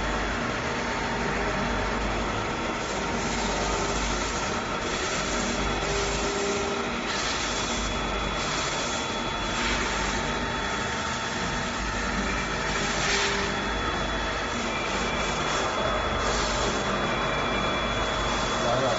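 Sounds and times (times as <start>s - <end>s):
high whine: 0.0s - 18.9s
lathe knurling rough mechanical noise: 0.0s - 18.9s.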